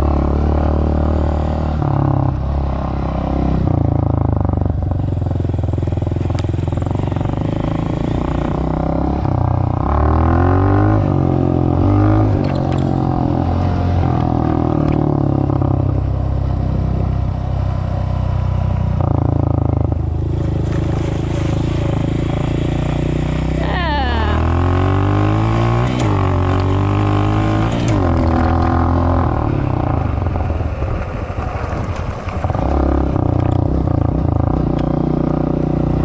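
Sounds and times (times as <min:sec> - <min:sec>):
small off-road vehicle engine: 0:00.0 - 0:36.0.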